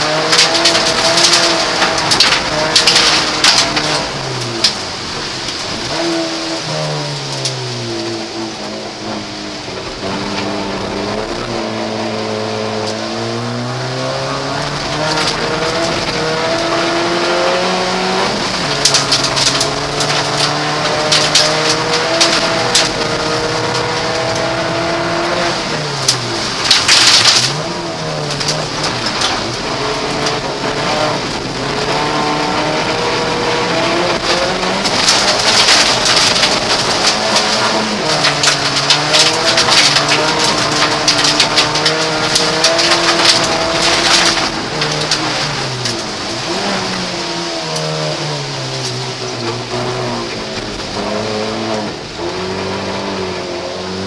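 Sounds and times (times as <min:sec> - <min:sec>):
car engine revving: 0:00.0 - 0:54.0
gravel clattering against car underside: 0:00.0 - 0:54.0.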